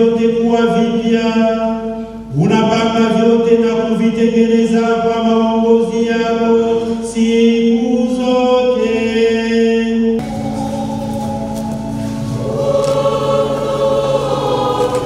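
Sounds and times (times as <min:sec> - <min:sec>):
liturgical chant singing: 0:02.4 - 0:15.0.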